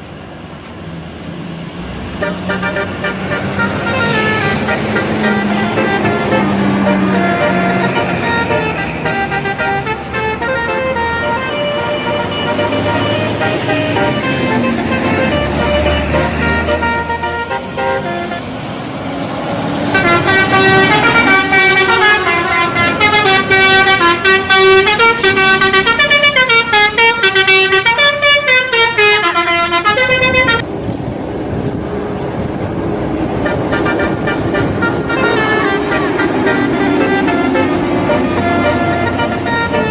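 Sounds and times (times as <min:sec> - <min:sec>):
bus and road noise: 0:00.0 - 0:39.9
multi-tone air horn melody: 0:02.2 - 0:19.1, 0:19.9 - 0:30.6, 0:33.4 - 0:39.9.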